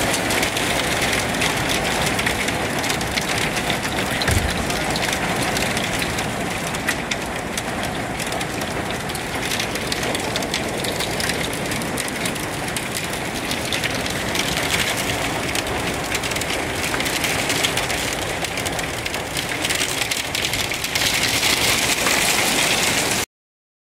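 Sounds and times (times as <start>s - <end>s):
hail pelting pavement and cars: 0.0s - 23.2s.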